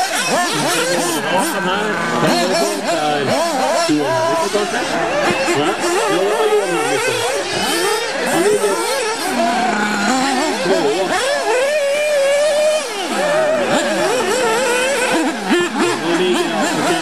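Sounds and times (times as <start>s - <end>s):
model buggy engines whining: 0.0s - 17.0s.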